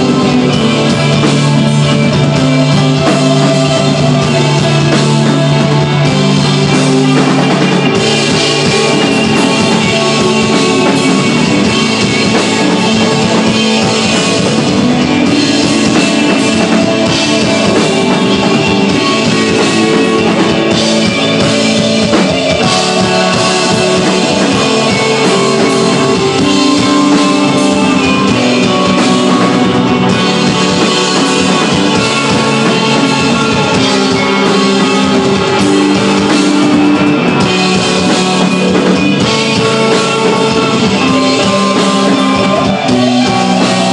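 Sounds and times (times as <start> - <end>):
rock band playing: 0.0 - 43.9.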